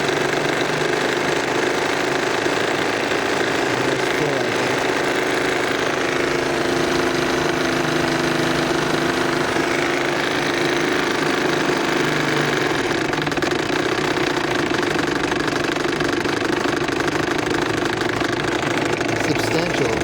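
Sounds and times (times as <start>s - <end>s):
model steam engine running fast: 0.0s - 20.0s.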